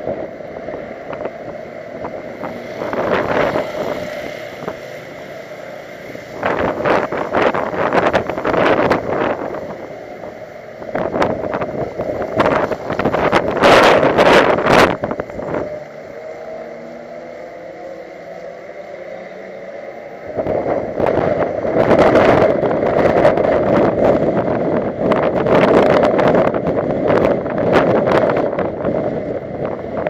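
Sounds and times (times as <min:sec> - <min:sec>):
car engine: 0:00.0 - 0:30.0
wind buffeting microphone: 0:00.0 - 0:30.0.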